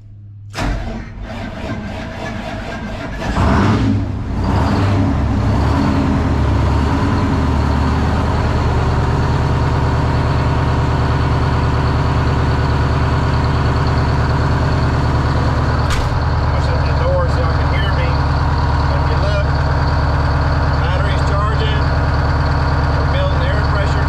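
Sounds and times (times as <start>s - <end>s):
diesel engine starting and idling: 0.3s - 24.0s.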